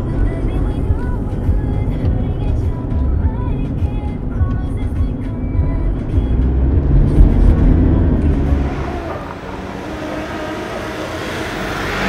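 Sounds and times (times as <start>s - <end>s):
engine rumble: 0.0s - 12.0s
road noise: 0.0s - 12.0s.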